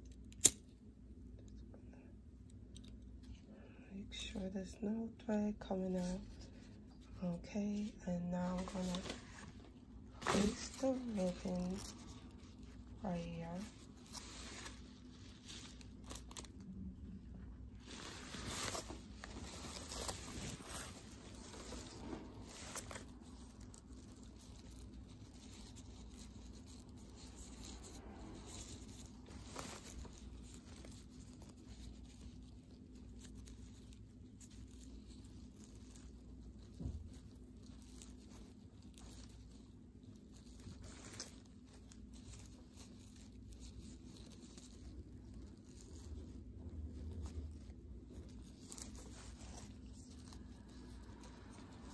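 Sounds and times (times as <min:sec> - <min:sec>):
low steady hum: 0:00.0 - 0:51.9
ribbon and tulle rustling: 0:02.7 - 0:51.9.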